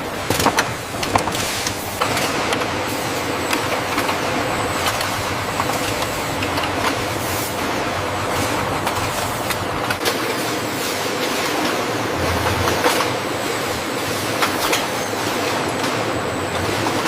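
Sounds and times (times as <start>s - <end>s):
industrial machinery running: 0.0s - 17.0s.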